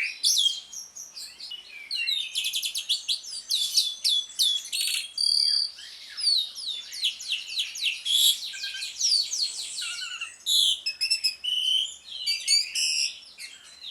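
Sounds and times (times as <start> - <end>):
starling whistling twitter: 0.0 - 13.9.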